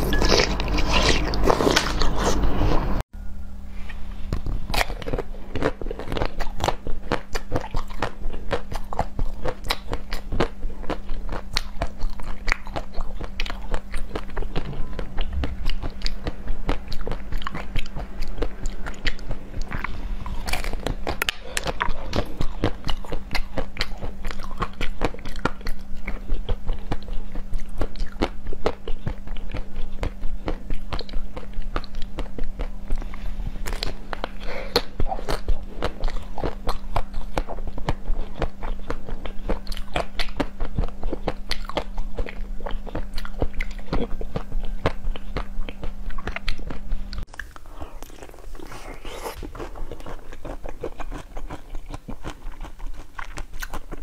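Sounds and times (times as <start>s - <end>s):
biting and chewing crunchy treat: 0.0s - 2.5s, 4.2s - 54.0s
faint steady hum: 0.0s - 54.0s.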